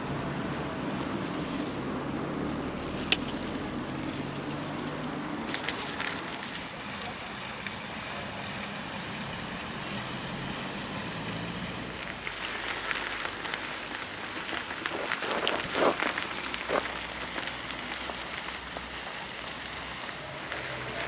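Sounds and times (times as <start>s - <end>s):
bicycle rolling with crunching: 0.0s - 9.2s, 11.6s - 21.0s.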